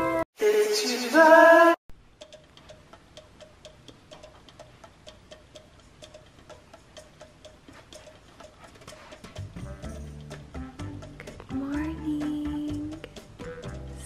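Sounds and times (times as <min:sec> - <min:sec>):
faint steady ticking: 0:01.9 - 0:14.0.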